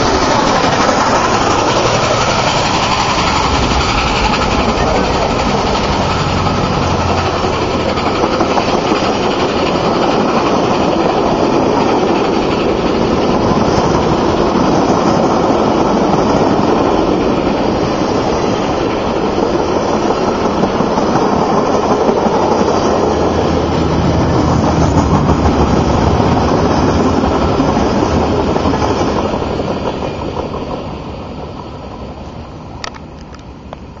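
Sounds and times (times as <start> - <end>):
train wheels rumbling and clattering: 0.0 - 34.0.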